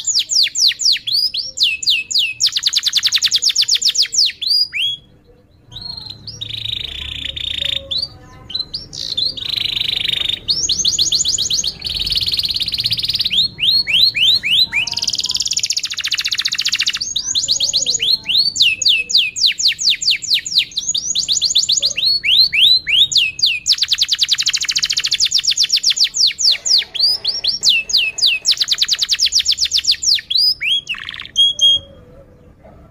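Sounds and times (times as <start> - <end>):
canary singing trills: 0.0 - 32.9.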